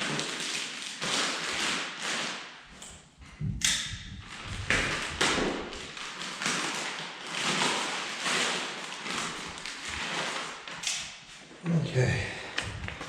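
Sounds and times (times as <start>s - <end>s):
packaging rustling and scraping: 0.0s - 2.7s, 4.1s - 11.6s, 12.6s - 13.0s.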